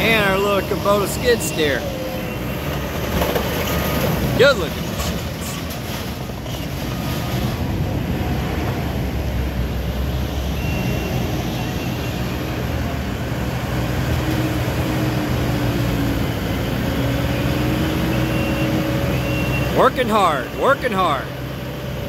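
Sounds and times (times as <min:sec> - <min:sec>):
diesel engines under load: 0:00.0 - 0:22.0.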